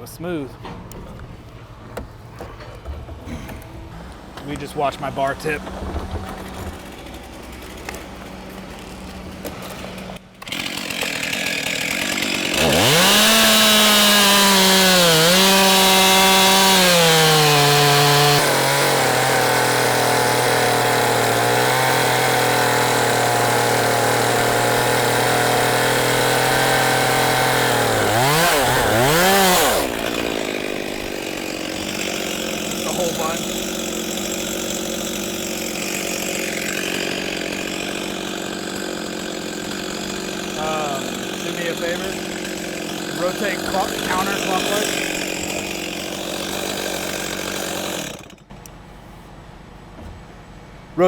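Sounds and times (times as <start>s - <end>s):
chainsaw running and cutting: 6.4s - 48.5s.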